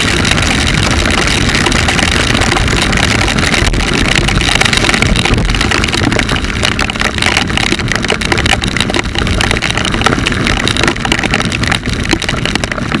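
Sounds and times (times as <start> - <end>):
crackling: 0.0 - 13.0
wind and road noise rushing: 0.0 - 13.0.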